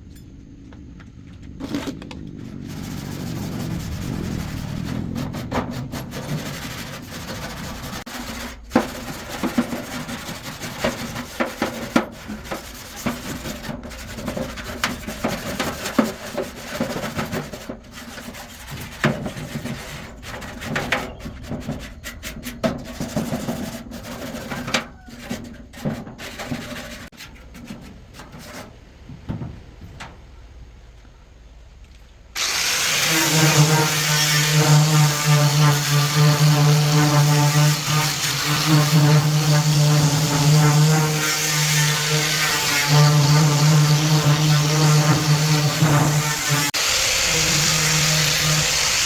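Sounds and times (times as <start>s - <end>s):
filing and scraping strokes: 1.8s - 28.7s, 32.4s - 49.0s.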